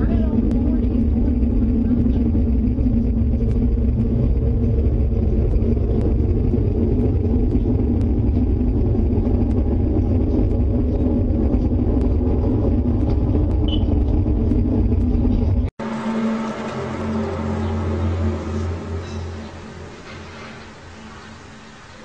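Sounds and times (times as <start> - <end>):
low rumble with droning hum: 0.0 - 22.0.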